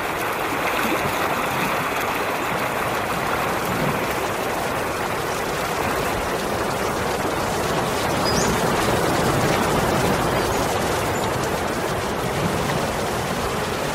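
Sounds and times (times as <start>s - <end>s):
stream water running: 0.0s - 13.9s.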